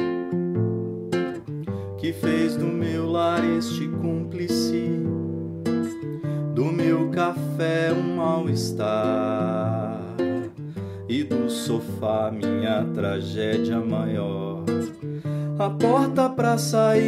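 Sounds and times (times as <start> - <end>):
acoustic guitar strumming: 0.0 - 17.0
man singing: 2.0 - 5.6, 6.5 - 17.0.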